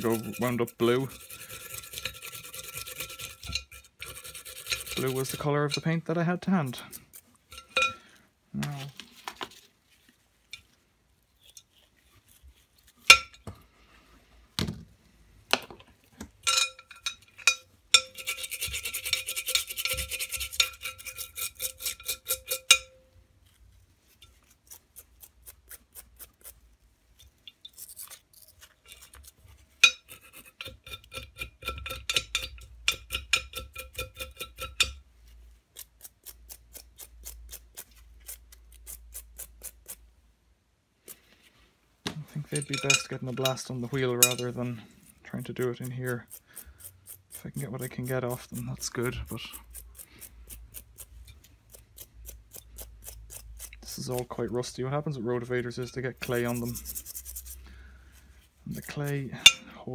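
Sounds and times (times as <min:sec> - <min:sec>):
brushes scrubbing metal parts: 0:00.0 - 0:08.1, 0:16.5 - 0:40.1, 0:42.3 - 0:59.9.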